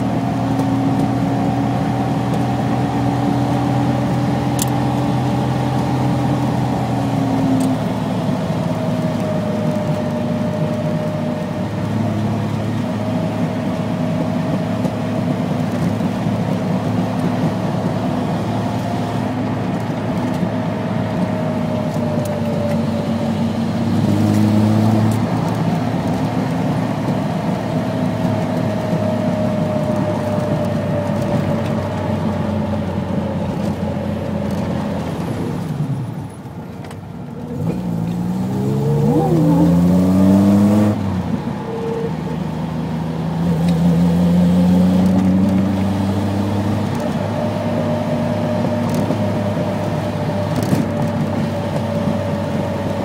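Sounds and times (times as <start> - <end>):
car engine from inside cabin: 0.0 - 53.0.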